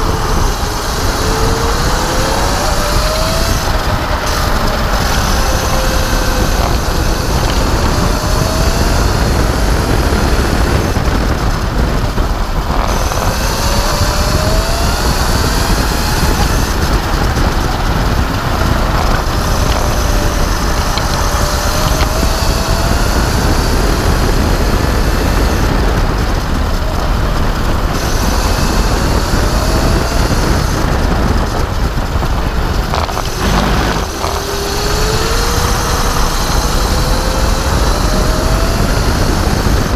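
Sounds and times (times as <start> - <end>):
electric motor whining: 0.0 - 39.9
wind and tyres rushing rumble: 0.0 - 39.9.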